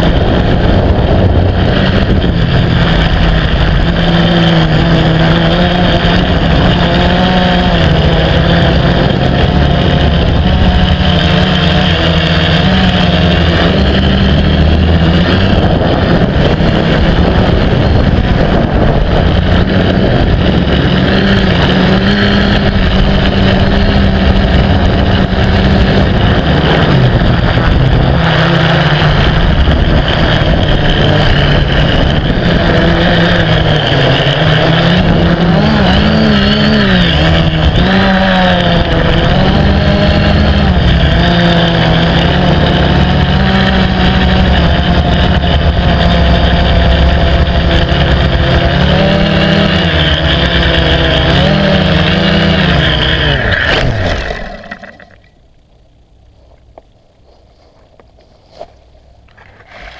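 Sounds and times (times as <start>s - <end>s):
drone motors whirring: 0.0s - 59.9s.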